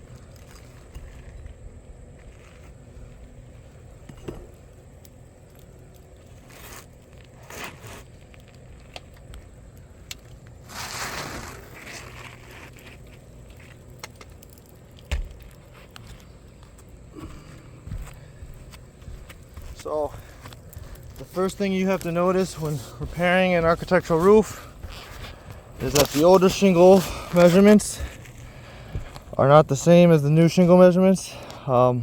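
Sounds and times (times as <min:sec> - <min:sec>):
roof shingles crackling and scraping: 0:00.0 - 0:31.9.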